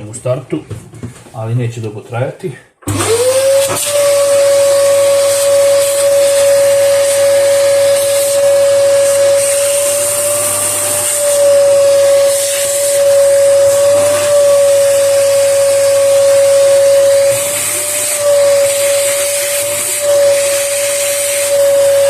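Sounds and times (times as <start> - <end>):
vacuum cleaner motor whine: 2.8 - 22.0.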